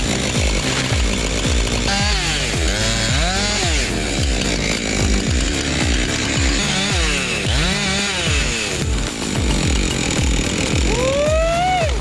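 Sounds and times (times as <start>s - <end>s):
background music with steady beat: 0.0s - 12.0s
chainsaw revving while cutting: 0.0s - 12.0s.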